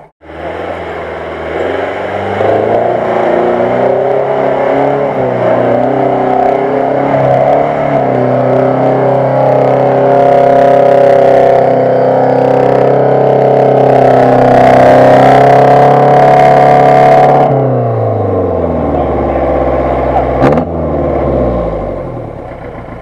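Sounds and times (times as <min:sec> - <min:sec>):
jeep engine revving: 0:00.0 - 0:23.0.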